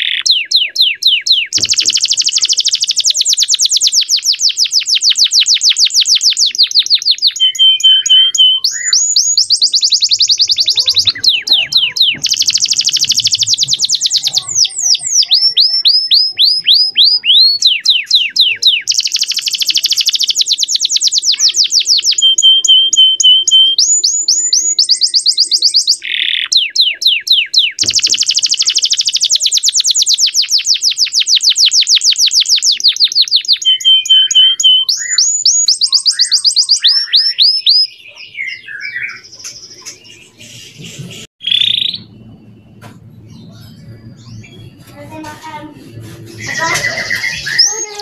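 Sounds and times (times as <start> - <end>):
faint bird chirps: 0.0 - 45.0
canary singing trills: 0.0 - 48.0.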